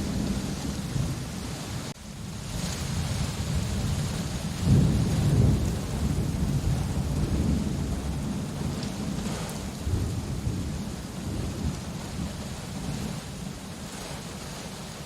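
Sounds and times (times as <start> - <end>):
low thunder rumble: 0.0 - 14.5
steady rain falling: 0.0 - 15.0.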